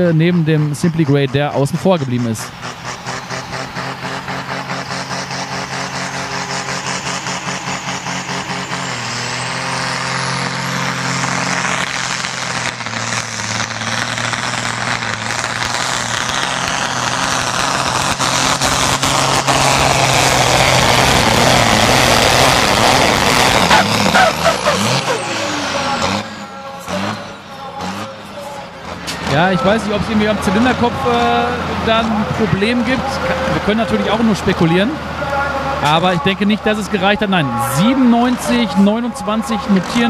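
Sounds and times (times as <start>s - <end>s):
diesel tractor engine revving: 0.0s - 40.0s.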